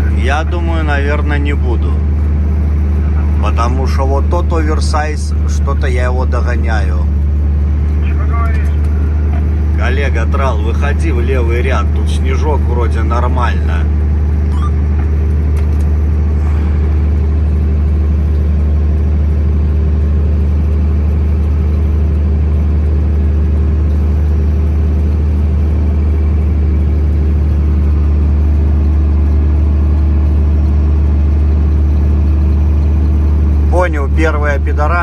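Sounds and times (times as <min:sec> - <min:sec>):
truck diesel engine droning: 0:00.0 - 0:35.0.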